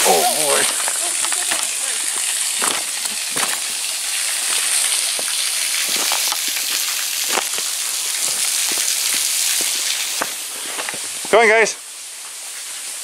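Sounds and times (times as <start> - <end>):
footsteps on loose stones: 0.0 - 11.5
small waterfall splashing: 0.0 - 13.0.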